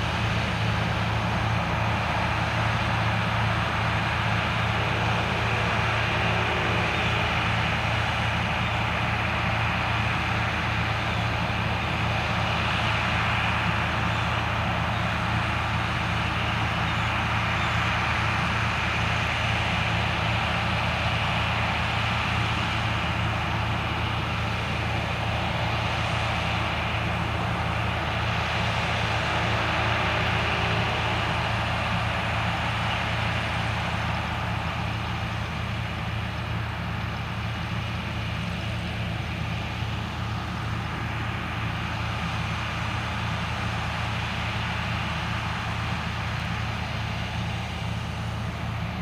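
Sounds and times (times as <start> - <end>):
combine harvester running: 0.0 - 49.0.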